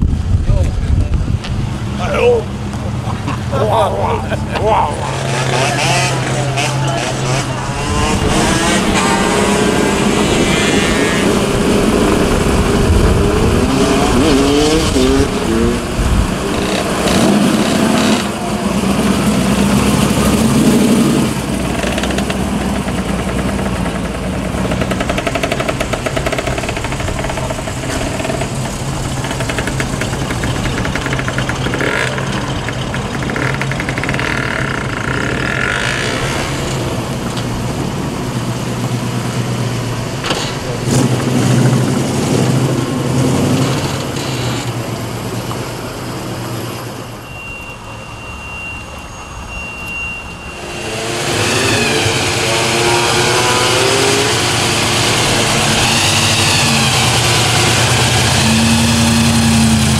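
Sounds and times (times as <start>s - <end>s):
car engines running: 0.0s - 59.9s.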